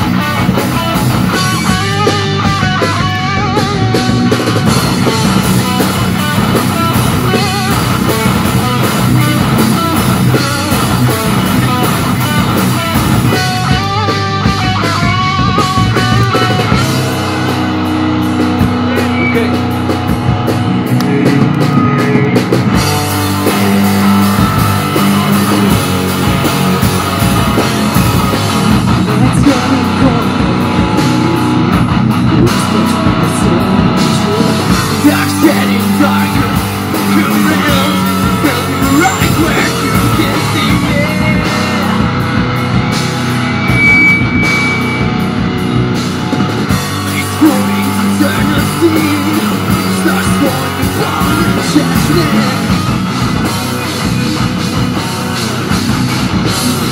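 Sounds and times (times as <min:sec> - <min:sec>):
live rock band: 0:00.0 - 0:56.9.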